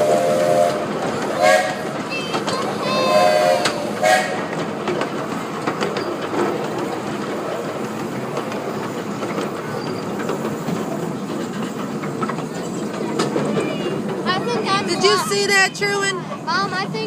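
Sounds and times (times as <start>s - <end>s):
miniature train rolling rumble: 0.0s - 17.0s
wheels clicking over rail joints: 0.4s - 17.0s.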